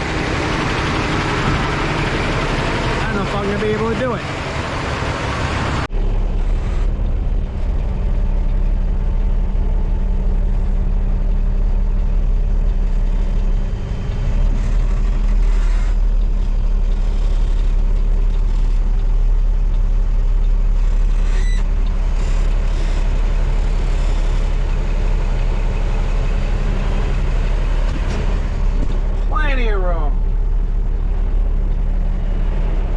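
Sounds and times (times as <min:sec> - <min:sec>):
diesel engine droning: 0:00.0 - 0:32.9.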